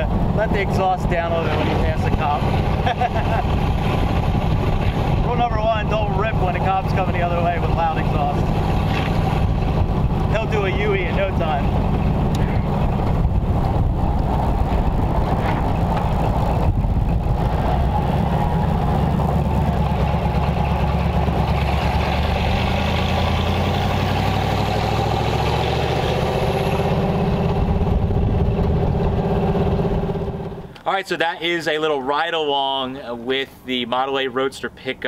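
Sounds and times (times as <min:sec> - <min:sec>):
car engine with loud exhaust: 0:00.0 - 0:30.8.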